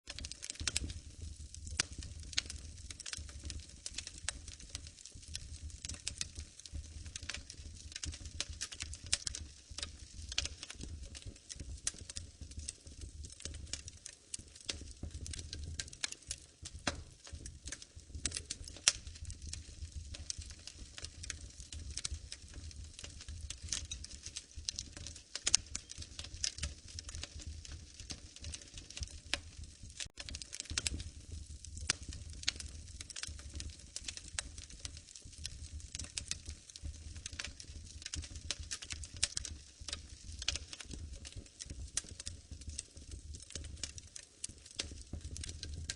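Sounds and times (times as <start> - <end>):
fire crackling and popping: 0.1 - 45.9
low rumble of flames: 0.1 - 45.9.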